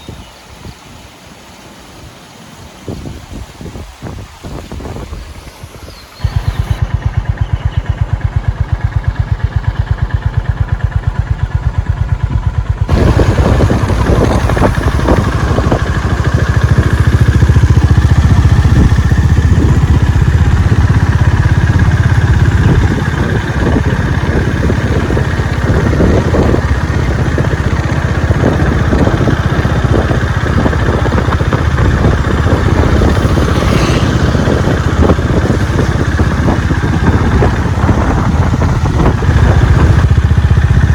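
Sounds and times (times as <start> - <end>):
motorcycle engine thumping: 6.2 - 40.9.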